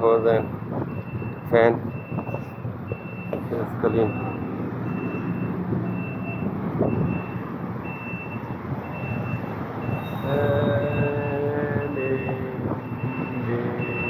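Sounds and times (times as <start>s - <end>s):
engine rumble: 0.0s - 14.0s
reversing alarm beeping: 0.0s - 14.0s.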